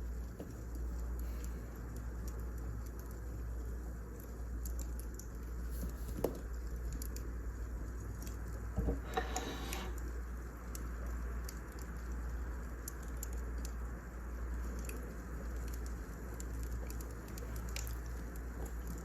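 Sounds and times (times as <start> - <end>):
firewood crackling and popping: 0.0 - 8.8, 10.0 - 19.0.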